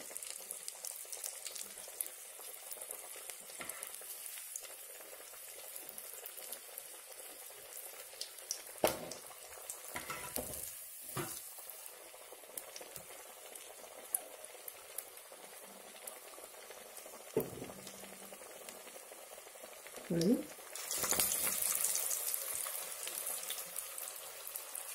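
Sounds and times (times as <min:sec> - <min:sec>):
oil sizzling while deep-frying: 0:00.0 - 0:24.9.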